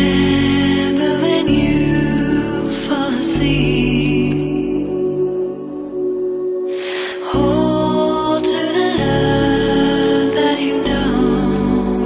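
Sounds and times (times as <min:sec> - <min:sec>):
sustained synth chords: 0:00.0 - 0:12.0.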